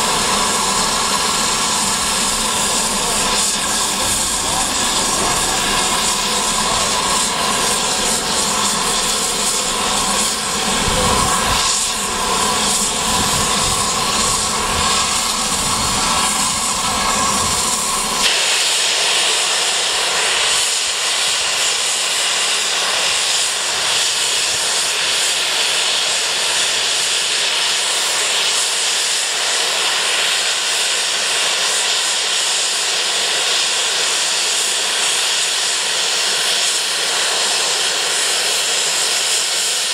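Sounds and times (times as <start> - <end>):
steam hissing from safety valves: 0.0 - 39.9.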